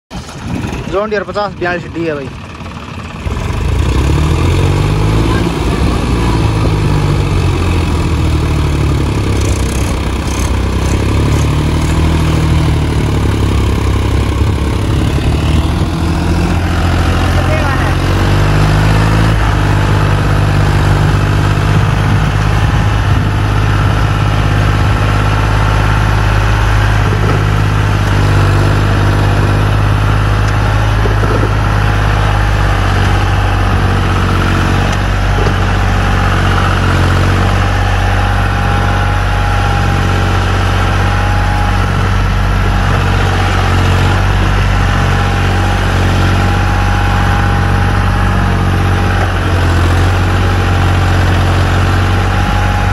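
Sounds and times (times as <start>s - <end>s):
diesel tractor engine under load: 0.1s - 52.9s.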